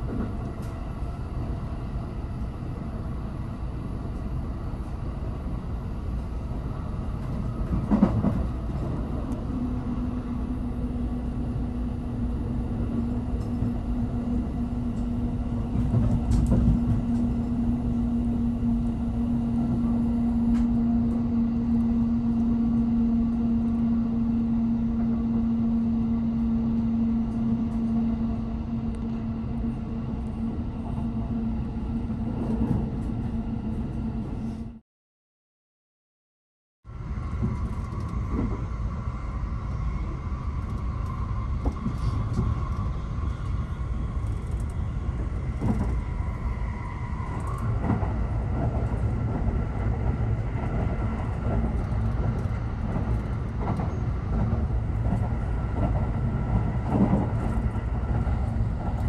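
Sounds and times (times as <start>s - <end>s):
train wheels rumbling on rail: 0.0s - 34.8s, 36.9s - 59.0s.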